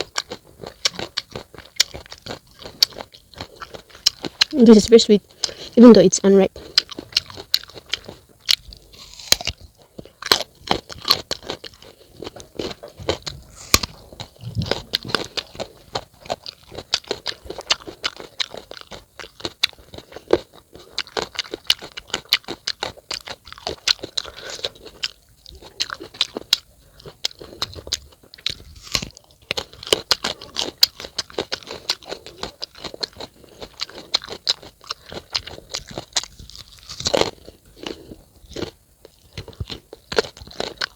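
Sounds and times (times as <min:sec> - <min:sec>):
person chewing crunchy fruit: 0:00.0 - 0:40.9.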